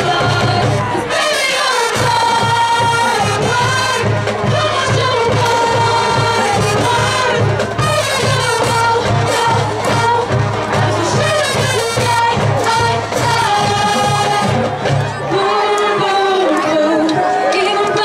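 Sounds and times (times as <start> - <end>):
group of people singing: 0.0 - 18.0
marching band playing: 0.0 - 18.0.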